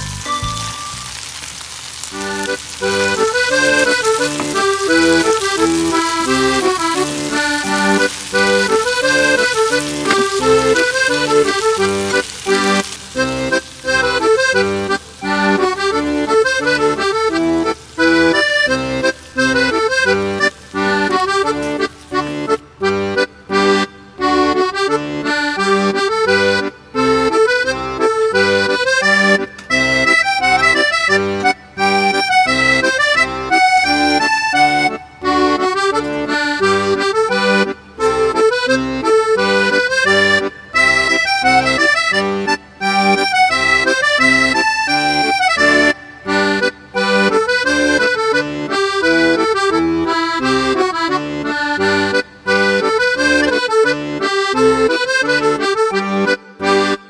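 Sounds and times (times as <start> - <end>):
instrumental background music: 0.0 - 57.0.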